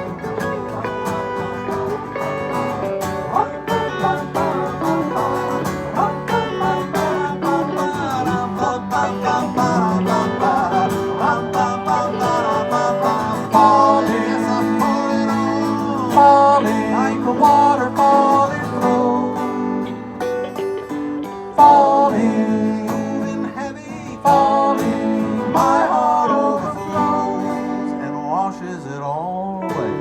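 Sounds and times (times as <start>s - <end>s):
electric slide guitar lead: 0.0s - 29.0s, 29.6s - 30.0s
strummed acoustic guitar: 0.0s - 30.0s.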